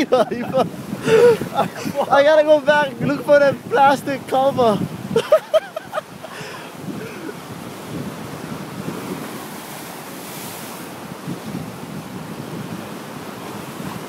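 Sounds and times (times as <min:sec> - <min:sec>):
ocean surf washing on shore: 0:00.0 - 0:14.0
wind buffeting microphone: 0:00.0 - 0:14.0.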